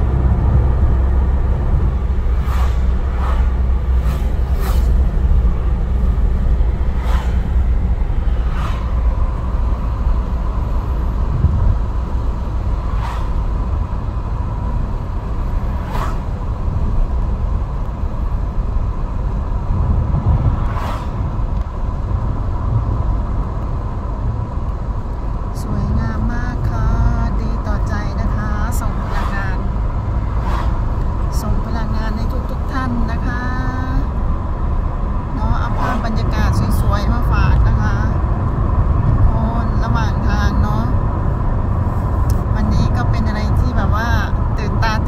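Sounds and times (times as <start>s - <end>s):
car road and engine rumble: 0.0s - 45.0s.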